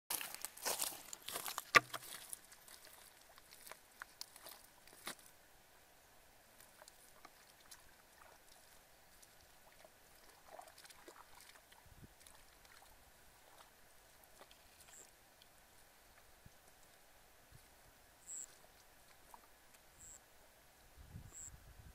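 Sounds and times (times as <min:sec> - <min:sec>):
faint outdoor hiss: 0:00.1 - 0:21.9.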